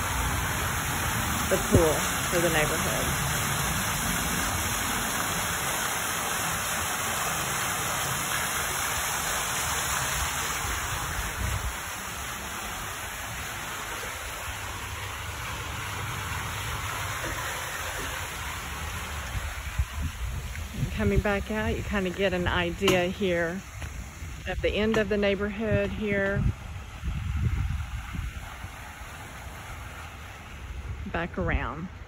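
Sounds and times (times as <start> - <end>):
fountain water splashing into pool: 0.0 - 32.0.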